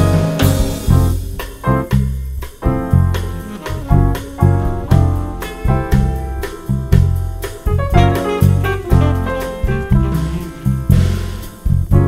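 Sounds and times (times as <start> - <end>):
deep electric bass notes: 0.0 - 12.0
piano chords: 0.0 - 12.0.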